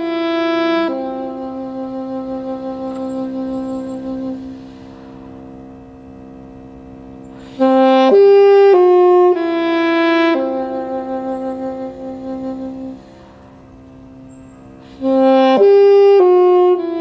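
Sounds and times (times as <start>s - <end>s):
cello holding low note: 0.0s - 17.0s
saxophone playing slow phrase: 0.0s - 17.0s.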